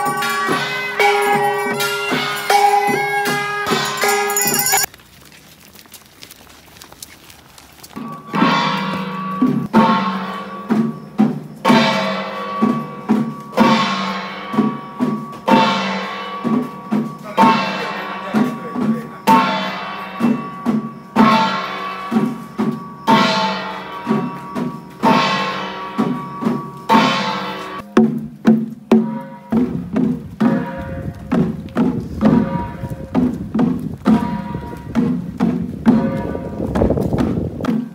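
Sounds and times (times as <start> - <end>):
drum beats: 0.0 - 4.9, 8.0 - 37.9.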